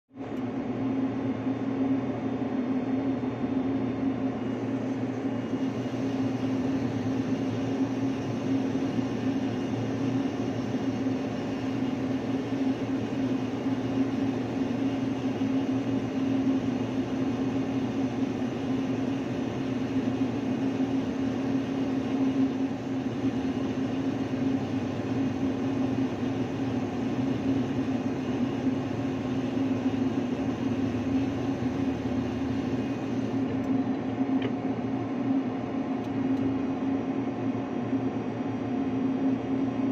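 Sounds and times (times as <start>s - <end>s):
ship machinery low hum: 4.1s - 38.5s.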